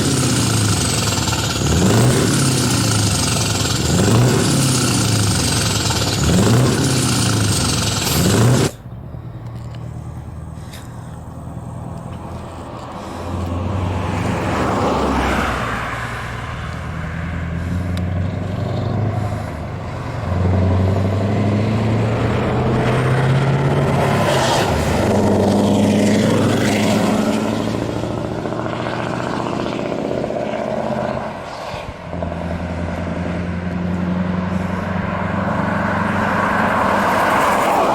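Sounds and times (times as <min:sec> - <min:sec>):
truck engine under load: 0:00.0 - 0:37.9.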